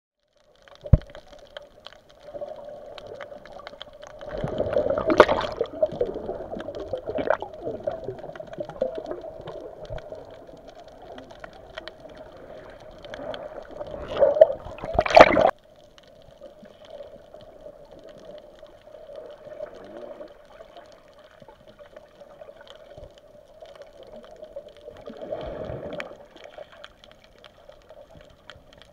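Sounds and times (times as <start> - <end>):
water gurgling underwater: 0.6 - 15.6, 16.4 - 28.9.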